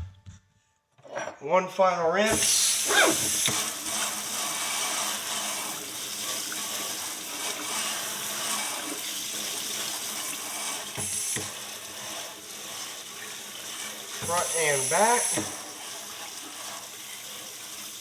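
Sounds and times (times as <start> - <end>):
water running from a tap: 2.3 - 18.0.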